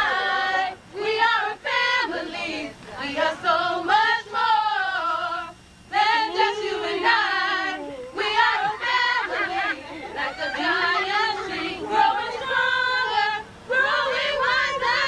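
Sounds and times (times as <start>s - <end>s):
people singing: 0.0s - 15.0s.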